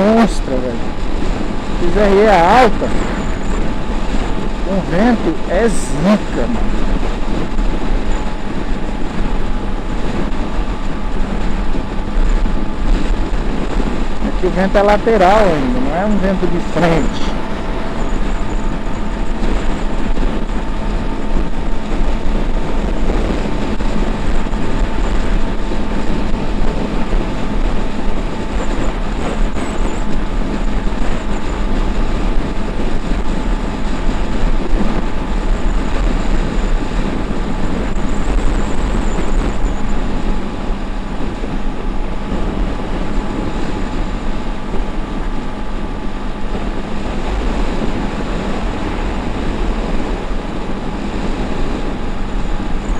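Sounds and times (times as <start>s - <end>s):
motorcycle engine drone: 0.0s - 52.9s
wind noise on microphone: 0.0s - 52.9s.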